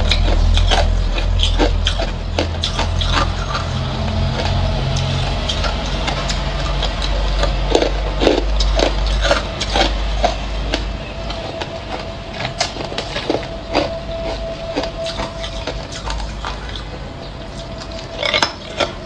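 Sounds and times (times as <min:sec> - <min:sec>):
ice cubes crunching: 0:00.0 - 0:19.0
low rumble: 0:00.0 - 0:19.0.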